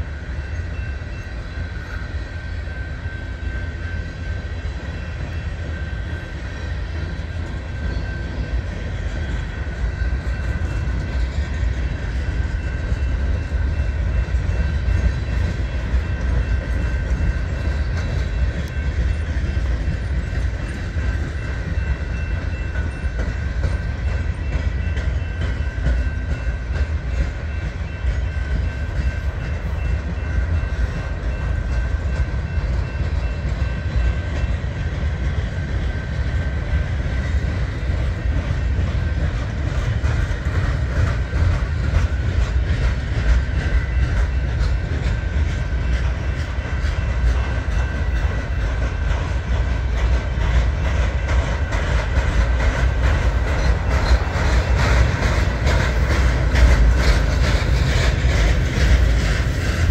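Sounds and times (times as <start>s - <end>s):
freight train rumbling: 0.0s - 59.9s
wheels clicking over rail joints: 4.8s - 59.9s.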